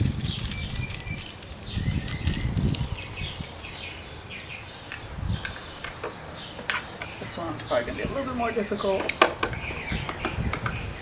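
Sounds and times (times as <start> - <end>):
small birds chirping: 0.0 - 11.0
wind rumbling on microphone: 0.0 - 11.0.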